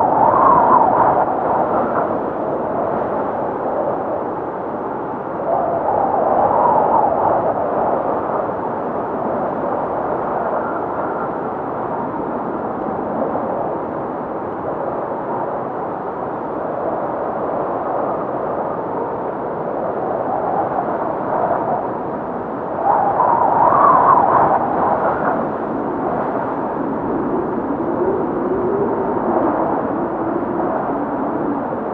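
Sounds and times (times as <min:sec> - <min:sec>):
strong blizzard wind: 0:00.0 - 0:31.9.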